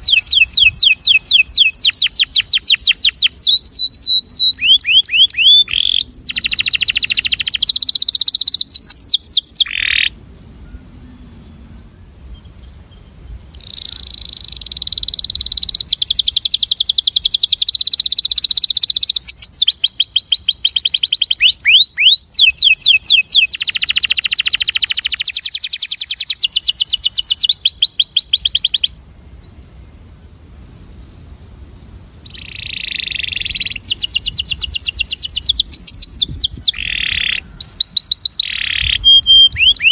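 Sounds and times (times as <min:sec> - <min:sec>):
canary singing fast trills: 0:00.0 - 0:10.8, 0:13.3 - 0:29.6, 0:32.2 - 0:39.9.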